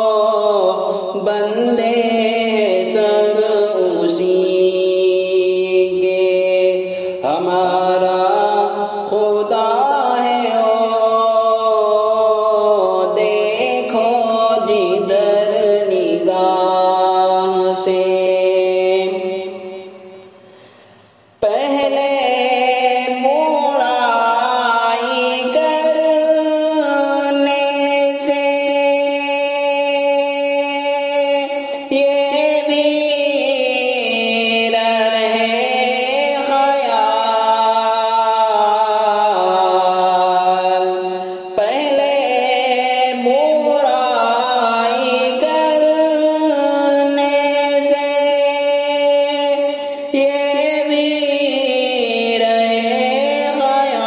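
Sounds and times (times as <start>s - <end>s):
person singing devotional melody: 0.0s - 54.0s.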